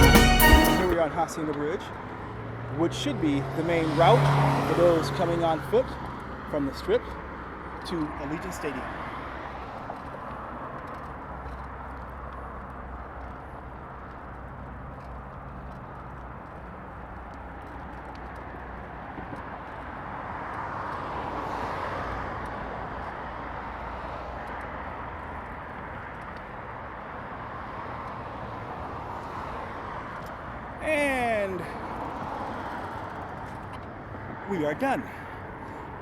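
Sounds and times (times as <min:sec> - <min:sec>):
road traffic rumble: 0:00.0 - 0:36.0
vehicle passing: 0:00.7 - 0:36.0.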